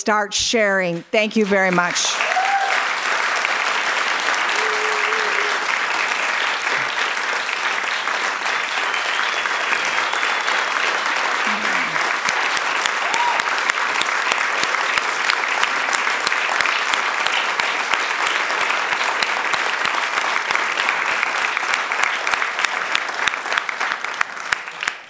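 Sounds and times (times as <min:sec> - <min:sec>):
audience applauding: 0:01.3 - 0:25.0.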